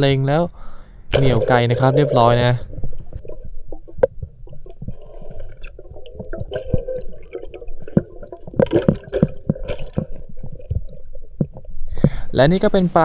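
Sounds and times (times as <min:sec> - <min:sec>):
water bubbling underwater: 0:01.1 - 0:12.0
underwater clicks and knocks: 0:01.1 - 0:12.2.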